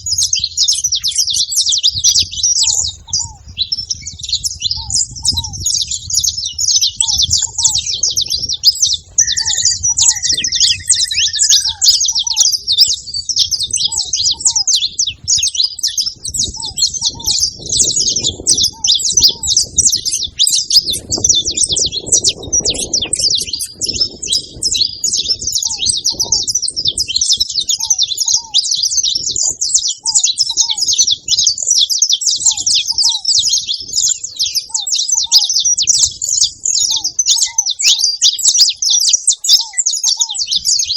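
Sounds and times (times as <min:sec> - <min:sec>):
finches chirping: 0:00.0 - 0:40.9.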